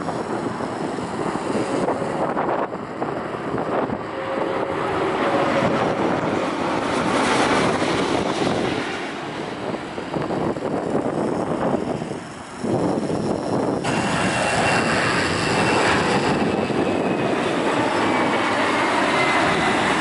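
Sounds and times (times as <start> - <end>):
jet engines passing overhead: 0.0 - 20.0
wind buffeting microphone: 0.0 - 20.0.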